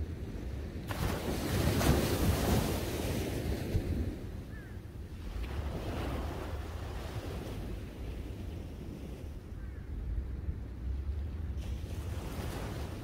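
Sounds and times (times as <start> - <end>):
wind rumble on microphone: 0.0 - 13.0
small waves breaking on beach: 0.1 - 9.5, 11.0 - 13.0.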